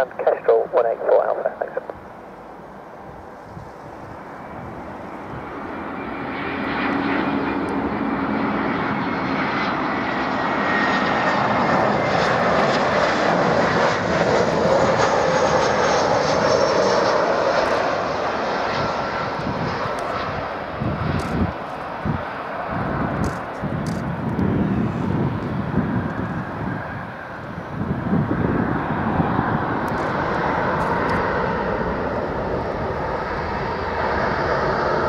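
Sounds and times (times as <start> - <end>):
jet airliner engine noise: 0.0 - 35.0.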